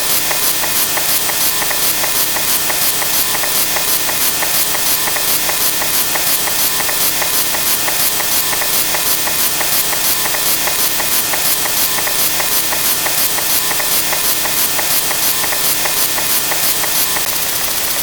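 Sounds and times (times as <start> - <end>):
rhythmic rasping: 0.0 - 17.3.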